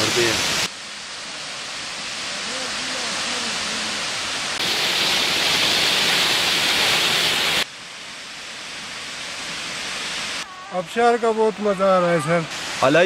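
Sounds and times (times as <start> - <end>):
waterfall rushing onto rock: 0.0 - 7.7, 8.8 - 13.0.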